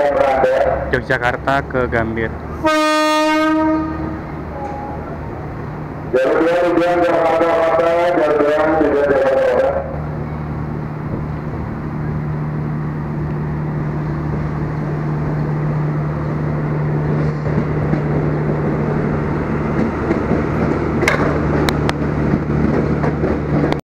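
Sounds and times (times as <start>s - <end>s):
train low mechanical hum: 0.0s - 23.8s.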